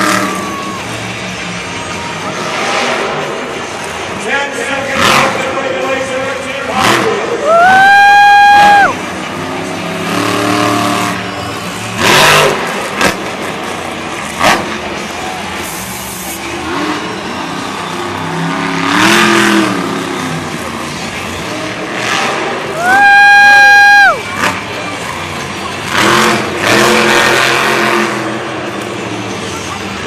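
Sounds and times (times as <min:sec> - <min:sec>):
crowd noise: 0:00.0 - 0:30.0
monster truck engine revving: 0:00.0 - 0:30.0.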